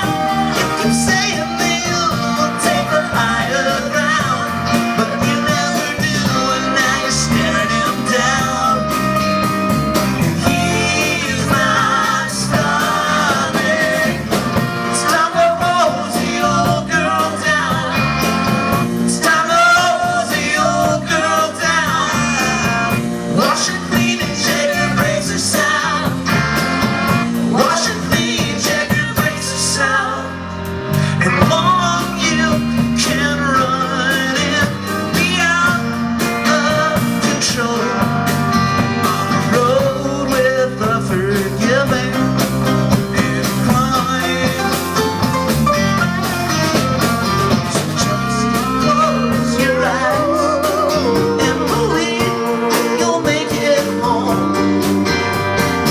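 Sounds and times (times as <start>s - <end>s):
live rock band playing: 0.0s - 55.9s.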